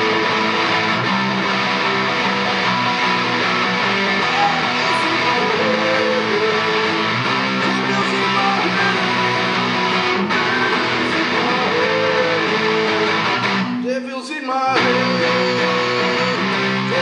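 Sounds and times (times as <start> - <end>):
strummed guitar music: 0.0 - 17.0.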